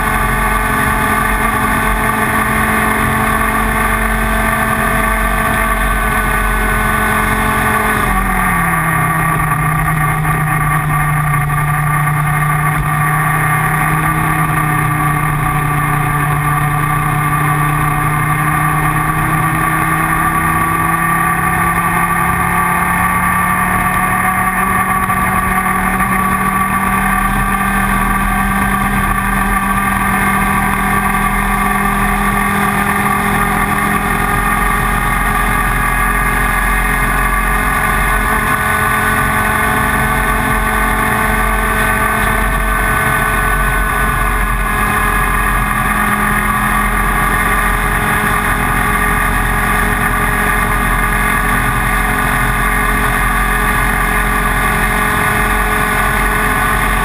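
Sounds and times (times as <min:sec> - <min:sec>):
kart engine running hard: 0:00.0 - 0:57.0.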